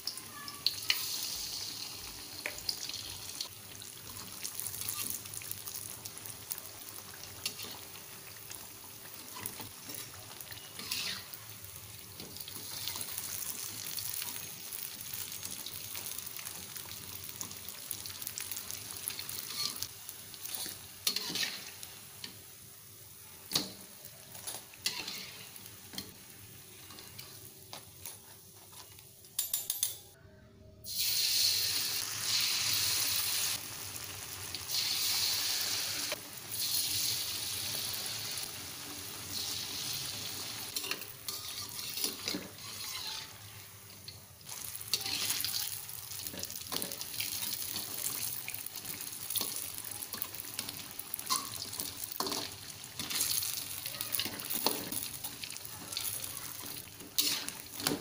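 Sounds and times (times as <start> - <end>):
deep-frying in hot oil: 0.0 - 29.8, 30.8 - 58.0.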